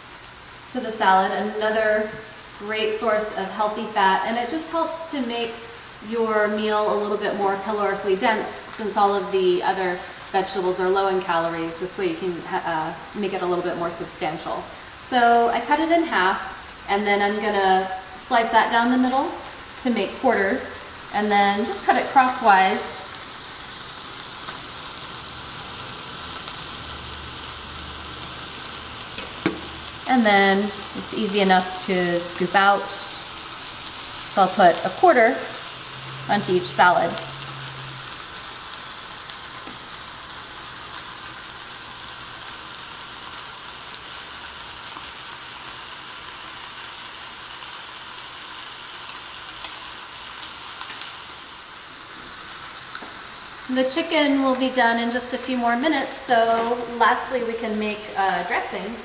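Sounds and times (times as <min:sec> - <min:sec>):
chicken sizzling in contact grill: 0:00.0 - 0:59.0.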